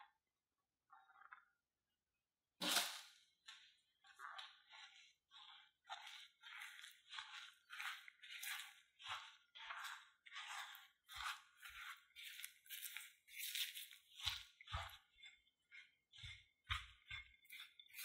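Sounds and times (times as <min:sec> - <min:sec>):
spatula stirring in bowl: 0:03.4 - 0:18.0.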